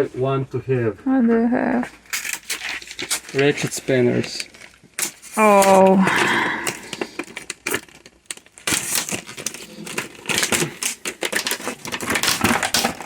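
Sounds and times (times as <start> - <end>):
packaging crinkling and clicking: 2.0 - 13.0.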